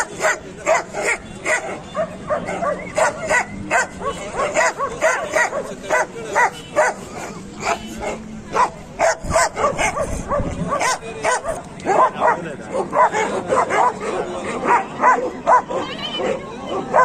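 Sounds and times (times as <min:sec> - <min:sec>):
dogs yapping: 0:00.2 - 0:17.0.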